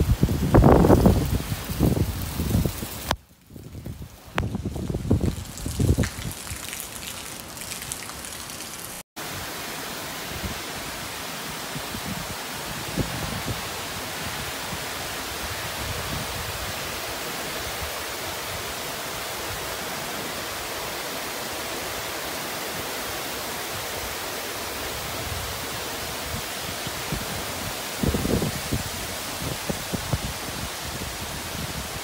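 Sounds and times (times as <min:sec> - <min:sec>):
torrential rain pouring: 0:00.0 - 0:32.0.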